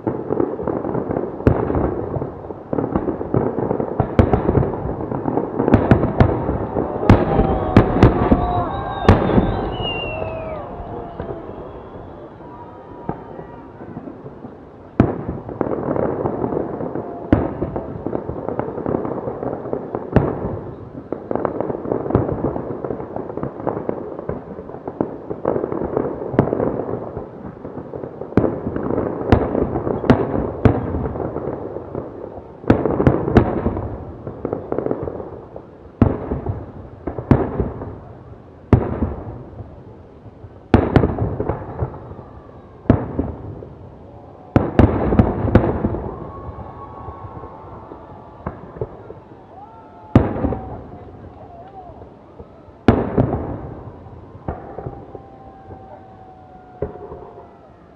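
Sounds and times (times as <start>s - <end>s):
rumbling crackle of fireworks: 0.0s - 57.9s.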